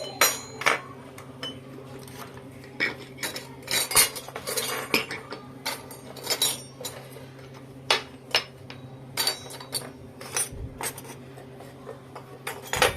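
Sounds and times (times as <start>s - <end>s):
toy utensils clinking: 0.0s - 7.1s, 7.9s - 11.2s.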